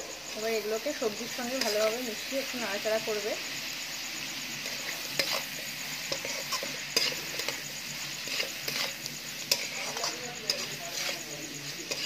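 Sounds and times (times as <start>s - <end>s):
food sizzling: 0.0s - 12.0s
metal spatula scraping wok: 0.3s - 12.0s.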